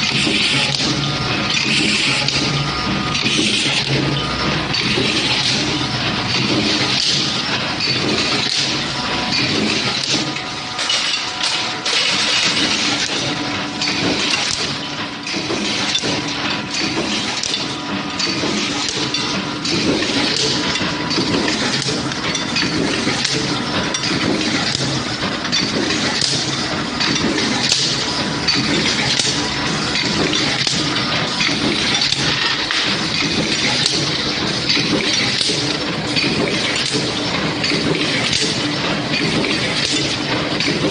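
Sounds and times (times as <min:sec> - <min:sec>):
machinery mechanical din: 0:00.0 - 0:40.9.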